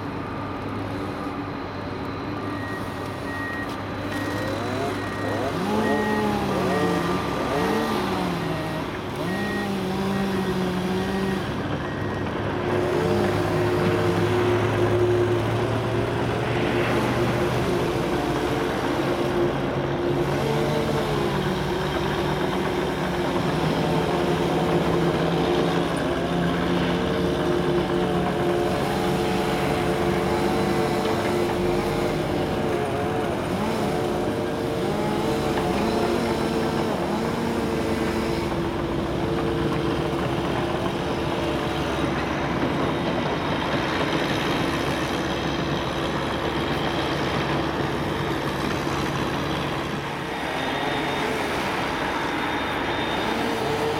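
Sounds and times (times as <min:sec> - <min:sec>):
jet engines drone with whining tones: 0:00.0 - 0:53.9.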